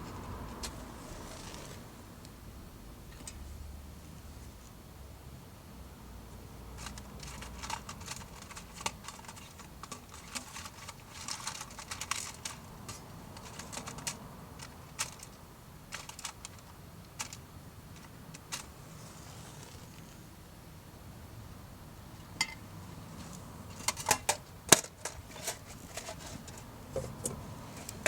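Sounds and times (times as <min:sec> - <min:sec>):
wood crackling in a stove: 0:00.0 - 0:05.0, 0:06.3 - 0:28.0.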